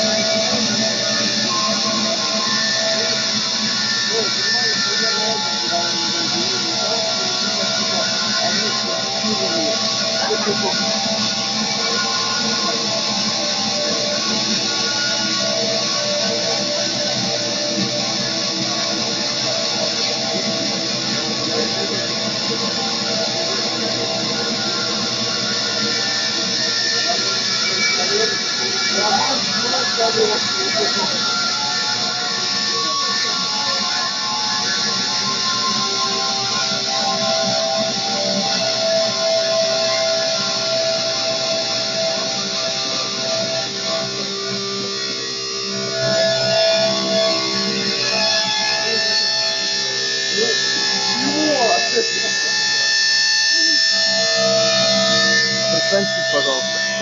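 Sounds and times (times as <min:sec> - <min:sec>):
distorted electric guitar noise: 0:00.0 - 0:57.0.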